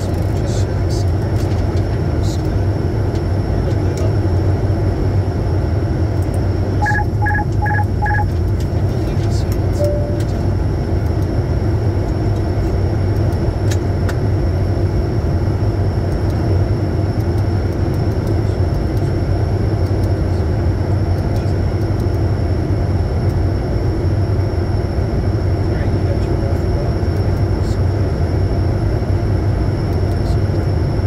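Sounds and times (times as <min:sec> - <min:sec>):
high-pitched whine: 0:00.0 - 0:31.0
jet cockpit rumble: 0:00.0 - 0:31.0.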